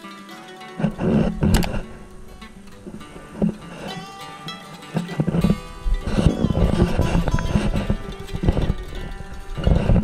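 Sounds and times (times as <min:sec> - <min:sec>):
background guitar music: 0:00.0 - 0:10.0.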